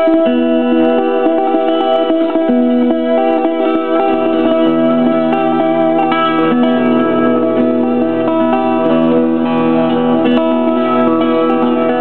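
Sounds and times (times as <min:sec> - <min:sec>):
fingerstyle acoustic guitar: 0:00.0 - 0:12.0.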